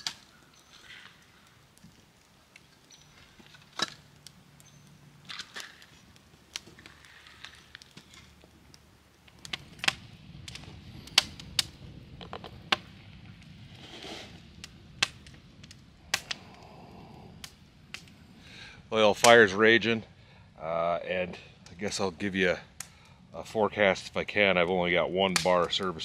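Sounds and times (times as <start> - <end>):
wood fire crackling and popping: 0.0 - 20.4, 21.0 - 26.0.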